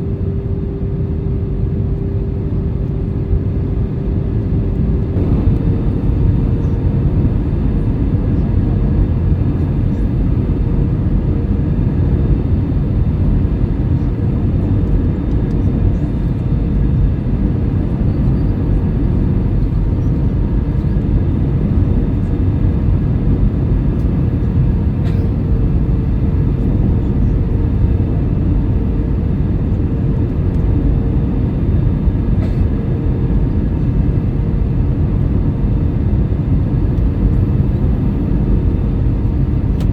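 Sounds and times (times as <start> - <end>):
faint constant whine: 0.0 - 32.8
aircraft cabin drone: 0.0 - 39.9.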